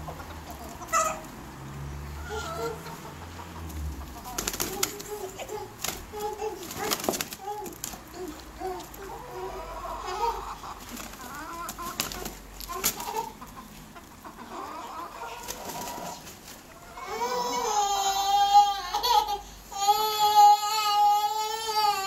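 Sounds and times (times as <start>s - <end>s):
chickens clucking: 0.0s - 20.2s.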